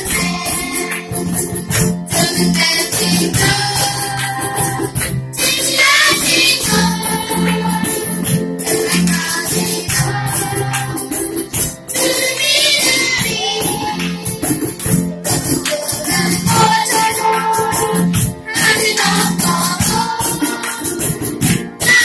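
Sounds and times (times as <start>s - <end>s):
cajons: 0.0s - 22.0s
children's choir singing: 0.0s - 22.0s
keyboard: 0.0s - 22.0s
strummed string instruments: 0.0s - 22.0s.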